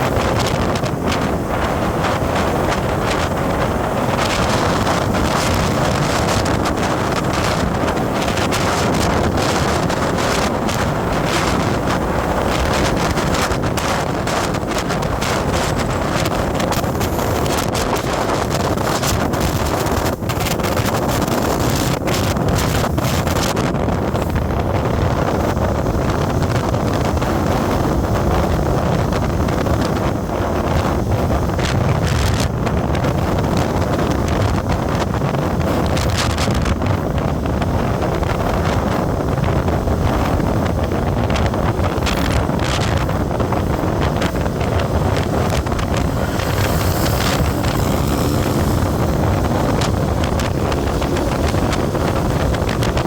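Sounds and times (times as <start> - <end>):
vehicle rumble on road: 0.0 - 53.0
wind buffeting microphone: 0.0 - 53.0.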